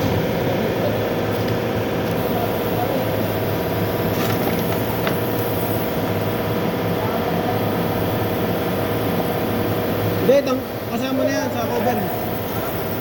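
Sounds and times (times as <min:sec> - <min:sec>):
electric cooling fan running: 0:00.0 - 0:13.0.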